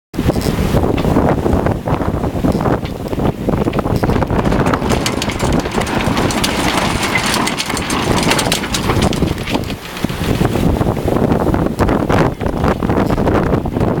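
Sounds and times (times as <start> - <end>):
wind buffeting microphone: 0.2 - 14.0
water rushing past hull: 0.6 - 14.0.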